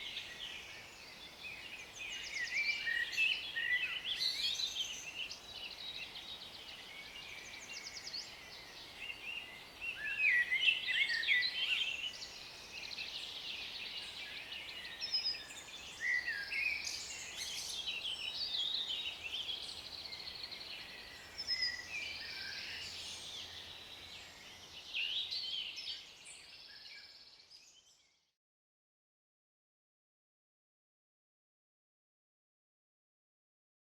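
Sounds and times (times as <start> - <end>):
songbirds singing and calling: 0.0 - 28.3.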